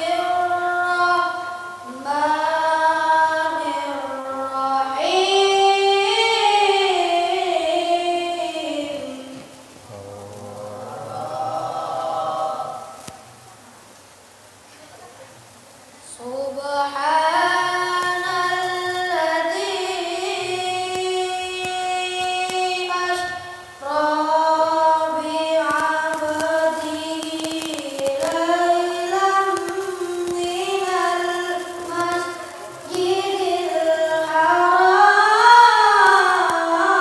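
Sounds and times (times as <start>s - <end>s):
boy reciting melodically: 0.0s - 13.4s, 16.0s - 37.0s.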